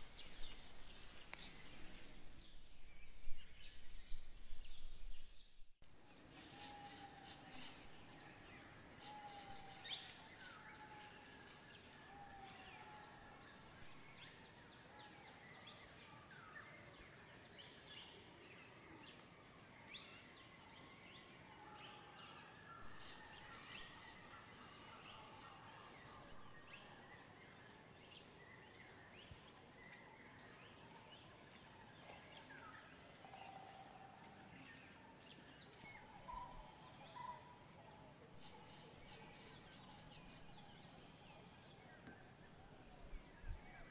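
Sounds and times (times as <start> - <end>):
birds chirping: 0.0 - 15.9, 22.4 - 43.9.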